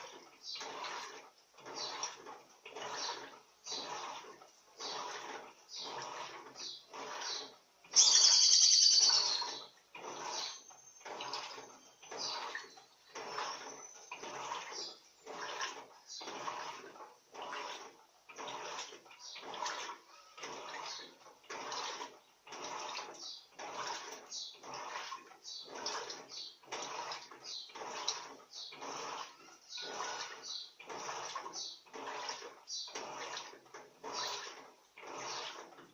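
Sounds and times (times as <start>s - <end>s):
washing machine water sloshing: 0.0s - 35.9s.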